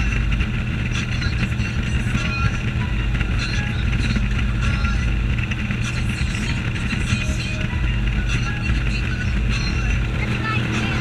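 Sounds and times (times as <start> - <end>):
motorboat engine rumble: 0.0 - 11.0.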